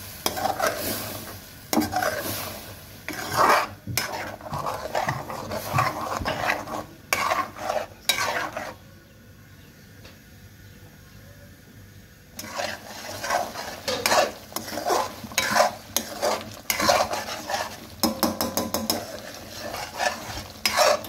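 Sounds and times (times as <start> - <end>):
gravy sizzling: 0.0 - 8.9, 12.3 - 21.0
metal spatula scraping a pot: 0.2 - 8.8, 12.4 - 21.0.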